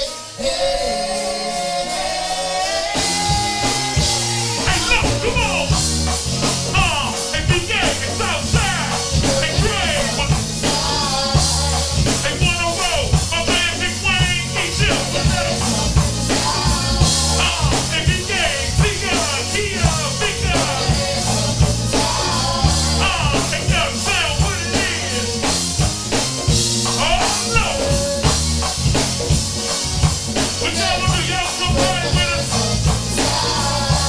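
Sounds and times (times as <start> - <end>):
rock music: 0.0 - 34.0.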